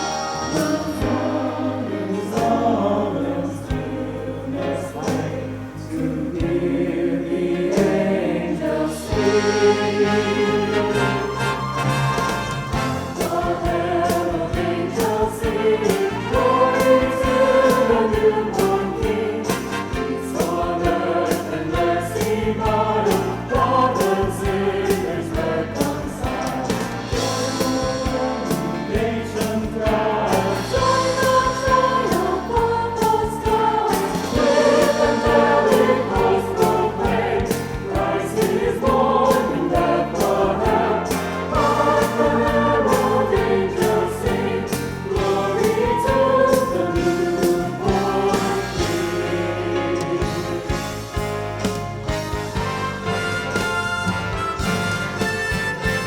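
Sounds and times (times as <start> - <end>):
choir singing in parts: 0.0 - 56.0
instrumental accompaniment: 0.0 - 56.0.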